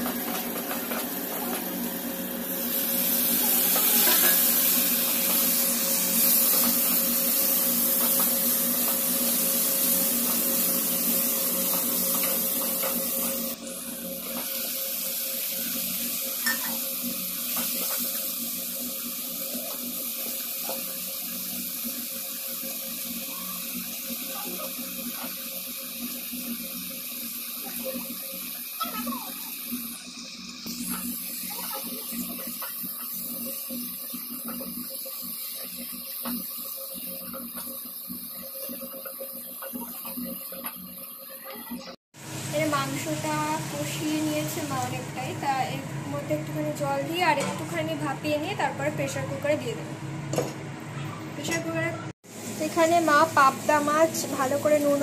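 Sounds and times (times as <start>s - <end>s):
onions sizzling in hot oil: 0.0s - 50.4s, 51.7s - 55.0s
meat frying: 0.0s - 50.7s, 52.2s - 55.0s.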